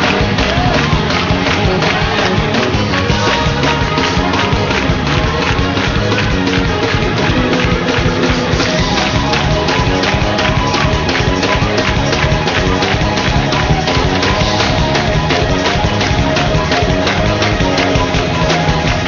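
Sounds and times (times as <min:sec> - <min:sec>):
gospel band playing fast vamp: 0:00.0 - 0:19.0
quick steady drum beat: 0:00.0 - 0:19.0.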